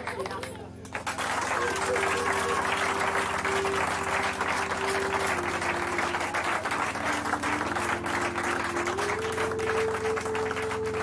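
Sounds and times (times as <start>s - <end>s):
people clapping: 0.0s - 11.0s
soft background music: 0.0s - 11.0s.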